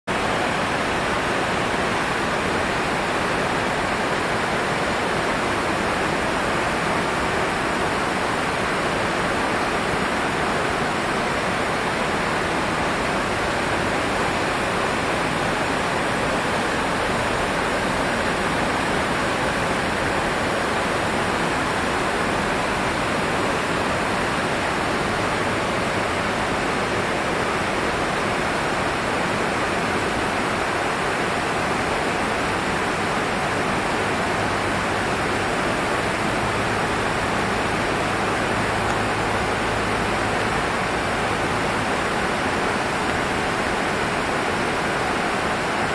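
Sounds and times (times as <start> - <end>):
river rushing over boulders: 0.1 - 45.9.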